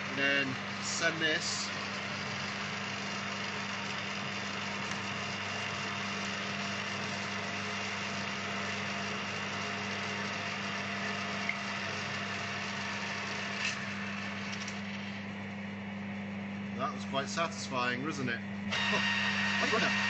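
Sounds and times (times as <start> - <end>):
metal lathe motor hum: 0.0 - 20.0.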